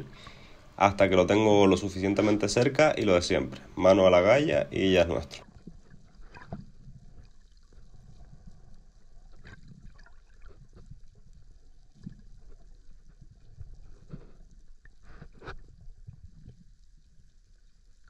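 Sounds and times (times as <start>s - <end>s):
underwater rumble of moving water: 0.1s - 18.0s.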